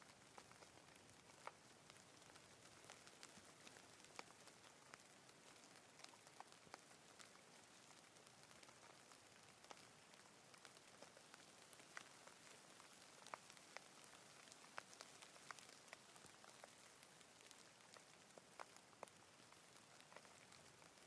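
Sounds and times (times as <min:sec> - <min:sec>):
rain falling: 0:00.0 - 0:21.0
raindrops ticking close by: 0:00.0 - 0:21.0.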